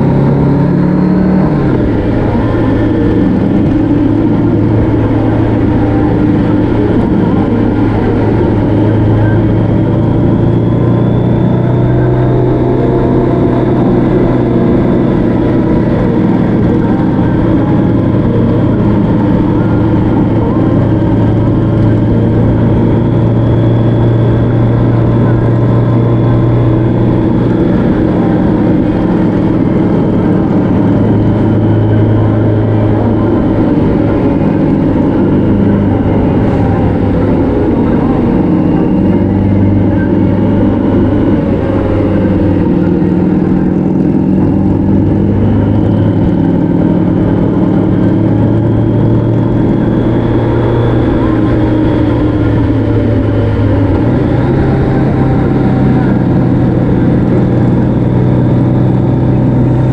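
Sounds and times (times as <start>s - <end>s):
motorcycle engine running: 0.0s - 59.9s
road and wind noise: 0.0s - 59.9s.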